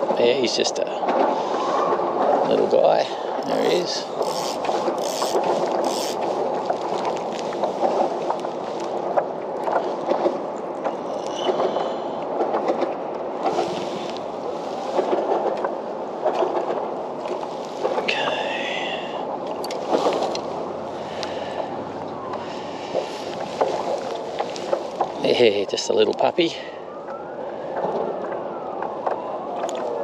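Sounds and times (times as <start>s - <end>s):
water lapping against kayak hull: 1.0s - 26.2s, 26.8s - 30.0s.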